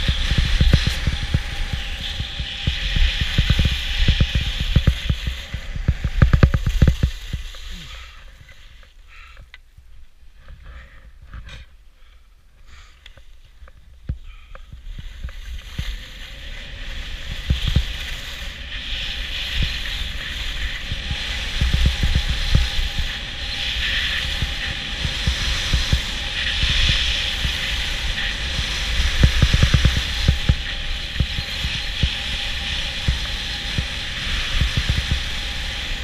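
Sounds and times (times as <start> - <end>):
skis hissing over snow: 0.0 - 9.3, 14.2 - 36.0
wind rumbling on microphone: 0.0 - 36.0.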